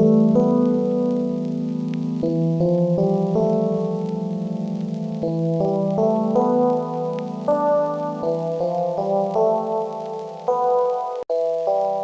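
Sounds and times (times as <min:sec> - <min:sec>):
soft melody of sustained notes: 0:00.0 - 0:12.0.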